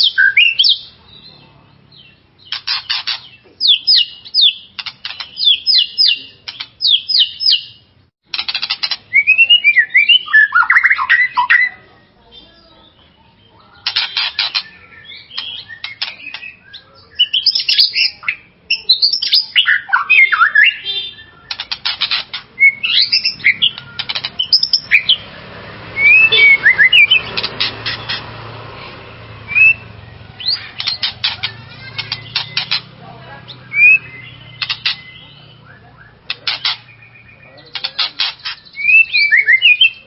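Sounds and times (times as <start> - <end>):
songbird singing: 0.0 - 40.0.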